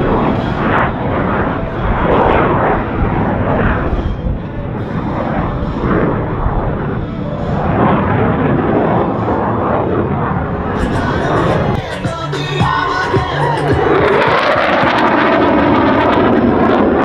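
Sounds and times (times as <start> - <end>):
jet engines crackling rumble: 0.0 - 17.0.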